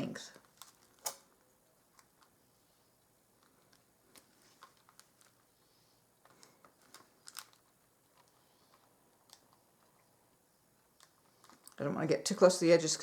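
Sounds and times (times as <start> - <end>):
small clicks and crackles: 0.3 - 11.9.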